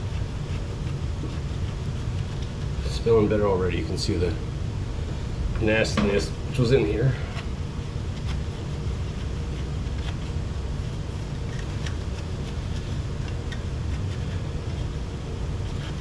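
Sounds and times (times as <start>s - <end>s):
low fan hum: 0.0s - 16.0s.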